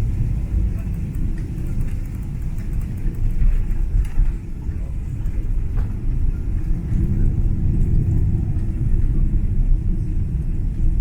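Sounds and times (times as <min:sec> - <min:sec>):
airliner cabin rumble while taxiing: 0:00.0 - 0:11.0.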